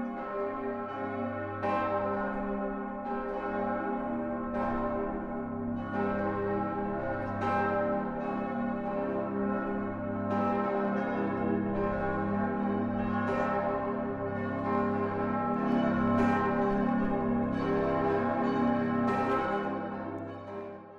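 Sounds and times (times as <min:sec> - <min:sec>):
church bells ringing: 0:00.0 - 0:20.9.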